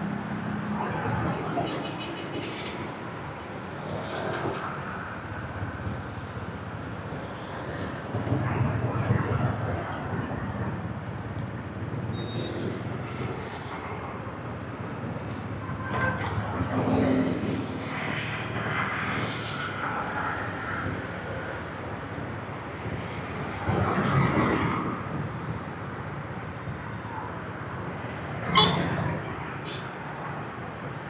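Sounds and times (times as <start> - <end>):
road and wind noise: 0.0 - 31.0.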